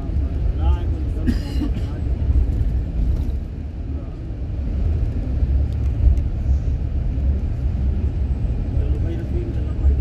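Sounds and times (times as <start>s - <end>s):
car interior road noise: 0.0s - 10.0s.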